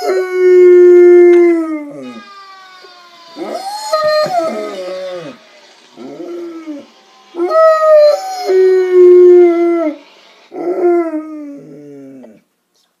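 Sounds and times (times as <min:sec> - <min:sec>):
dog howling: 0:00.0 - 0:05.4, 0:06.0 - 0:12.4
fire truck siren: 0:00.0 - 0:12.2.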